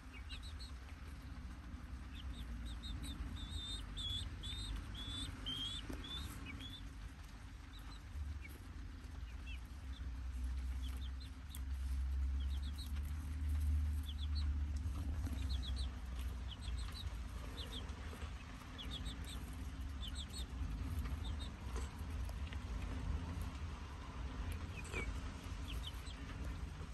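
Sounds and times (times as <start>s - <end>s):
chicks peeping: 0.0s - 26.9s.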